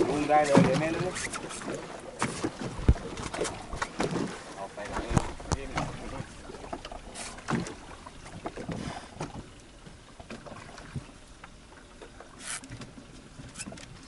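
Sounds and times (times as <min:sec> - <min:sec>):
water slapping boat hull: 0:00.0 - 0:14.0.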